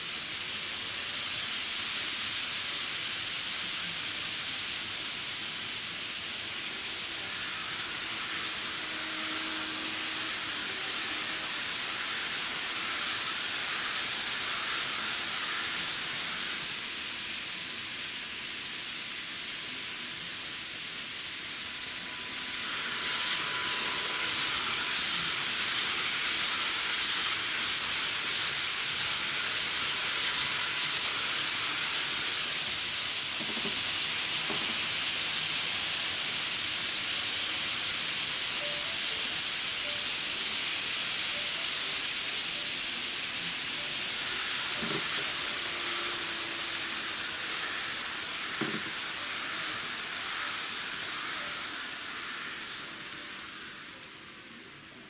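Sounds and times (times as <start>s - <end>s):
model train whirring on track: 0.0s - 55.0s.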